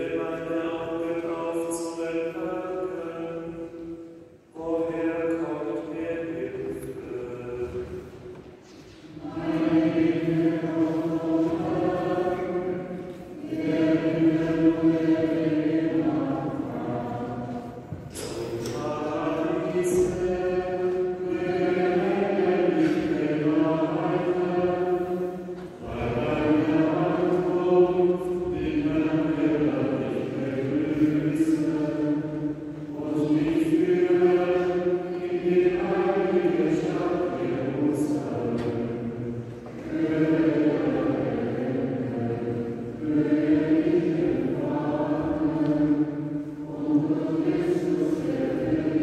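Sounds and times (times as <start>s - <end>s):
group singing in unison: 4.6s - 49.0s.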